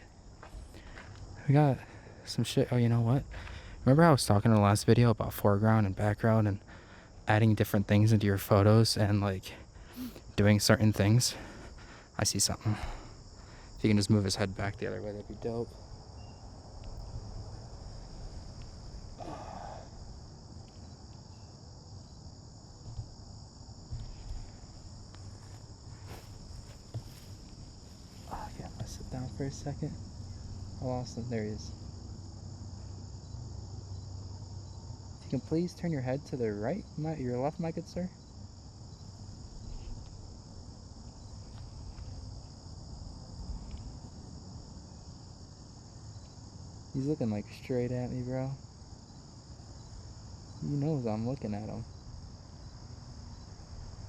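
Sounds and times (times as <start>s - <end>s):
crickets chirping: 0.0s - 54.0s
insect chorus: 0.0s - 54.0s.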